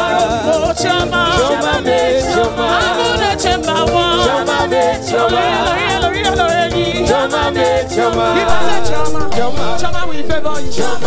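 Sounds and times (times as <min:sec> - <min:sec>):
band playing upbeat song: 0:00.0 - 0:11.0
people singing: 0:00.0 - 0:11.0
rattling percussion: 0:00.0 - 0:11.0.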